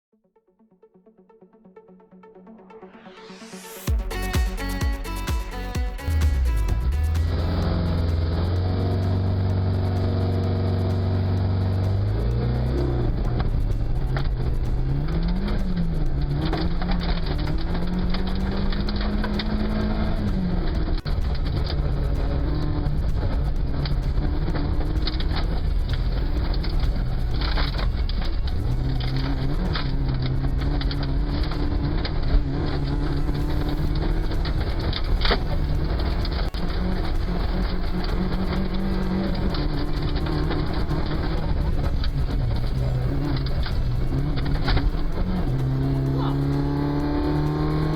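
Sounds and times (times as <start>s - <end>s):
rally car engine revving: 4.0s - 47.9s.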